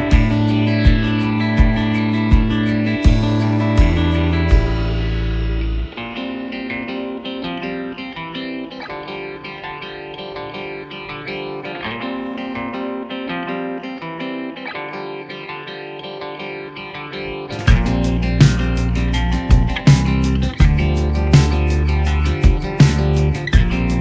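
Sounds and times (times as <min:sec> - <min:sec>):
plucked guitar music: 0:00.0 - 0:24.0.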